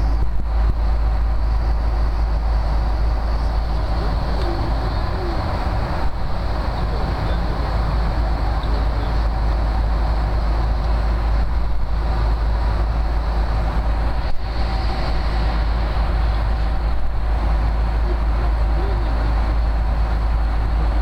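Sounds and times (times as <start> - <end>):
airliner engines droning: 0.0 - 21.0
rushing air: 0.0 - 21.0.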